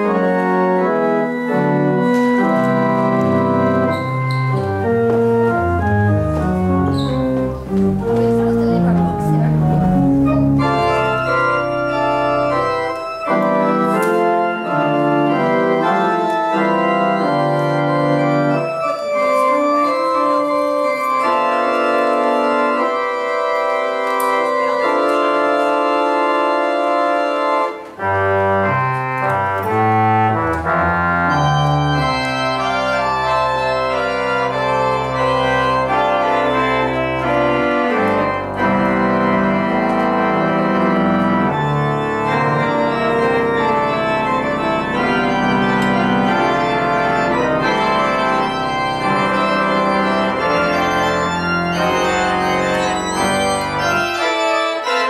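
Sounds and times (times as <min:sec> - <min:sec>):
church organ playing chords: 0:00.0 - 0:55.0.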